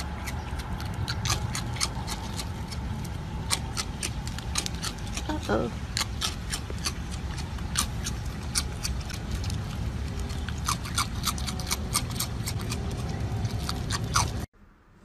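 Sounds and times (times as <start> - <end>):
animal crunching cereal: 0.0 - 14.5
steady low rumble: 0.0 - 14.6.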